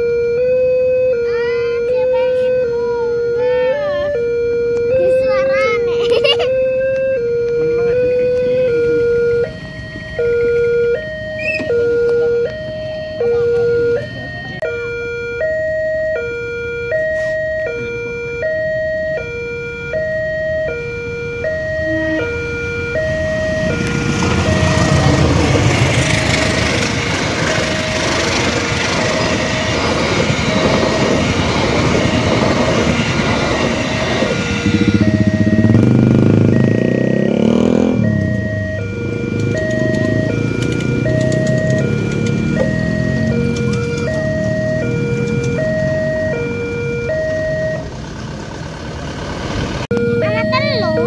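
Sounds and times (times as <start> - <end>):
passenger train passing: 0.0 - 14.6, 17.5 - 51.0
two-tone level crossing alarm: 0.0 - 48.1, 49.9 - 51.0.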